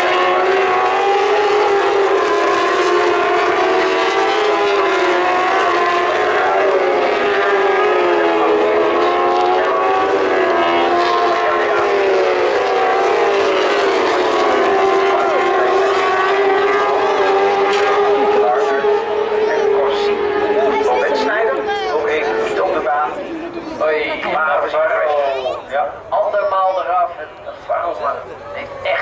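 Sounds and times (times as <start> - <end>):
racing motorcycles revving: 0.0 - 29.0.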